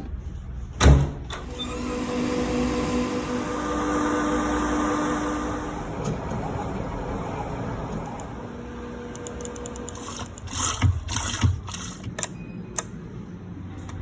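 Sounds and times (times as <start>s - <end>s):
laboratory equipment humming: 0.0s - 14.0s.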